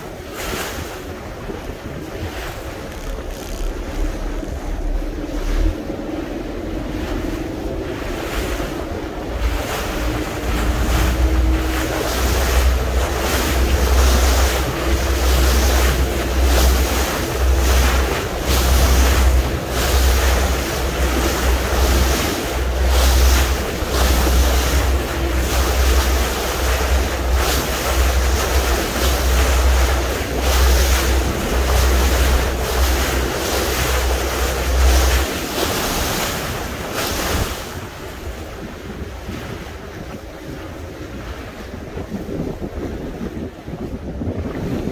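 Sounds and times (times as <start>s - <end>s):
sea water rushing around boat: 0.0s - 44.9s
wind buffeting microphone: 0.0s - 44.9s.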